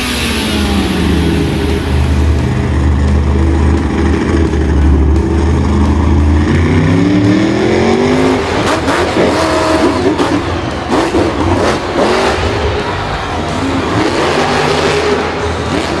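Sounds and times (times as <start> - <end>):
vehicle engine rumbling and revving: 0.0 - 16.0.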